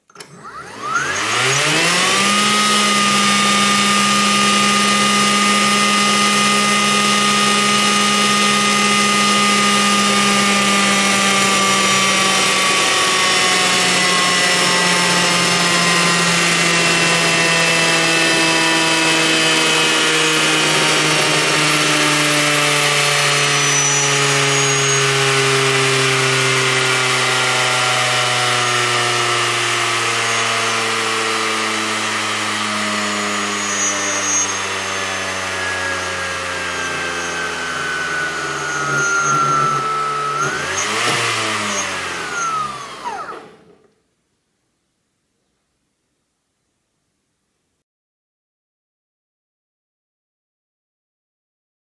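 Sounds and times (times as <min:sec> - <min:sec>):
electric chainsaw motor whine: 0:00.1 - 0:43.9.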